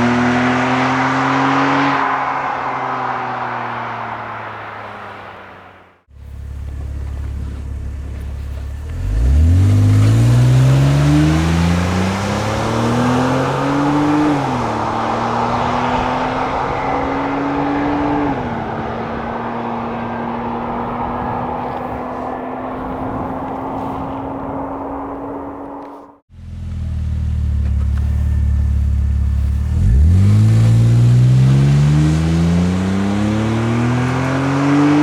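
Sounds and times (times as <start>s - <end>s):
car engine accelerating: 0.0s - 35.0s
road noise: 0.0s - 35.0s.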